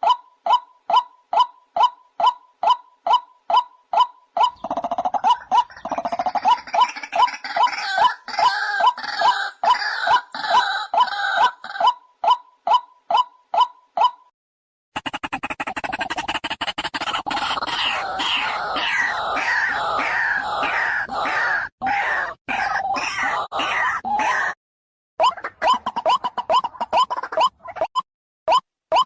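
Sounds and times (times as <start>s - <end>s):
bird croaking harshly: 0.0s - 14.2s, 15.0s - 24.6s.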